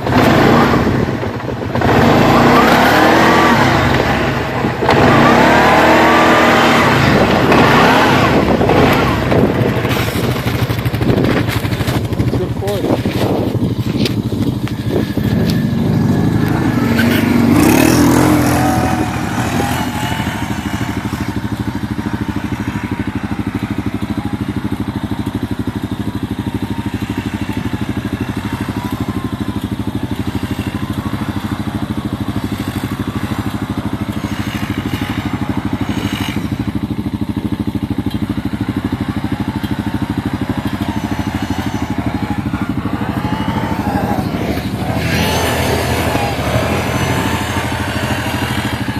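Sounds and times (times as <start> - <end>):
quad engine running: 0.0 - 48.9.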